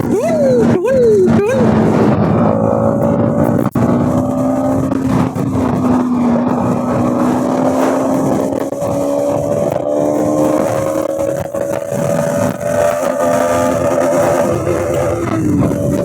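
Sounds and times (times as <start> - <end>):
motorcycle engine cruising: 0.0 - 16.0
road noise: 0.0 - 16.0
wind noise: 0.0 - 16.0.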